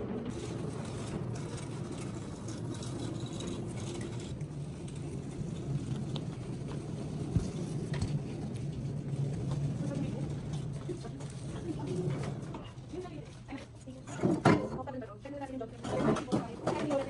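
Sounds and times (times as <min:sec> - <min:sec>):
wheeled furniture rolling on hard floor: 0:00.0 - 0:17.0.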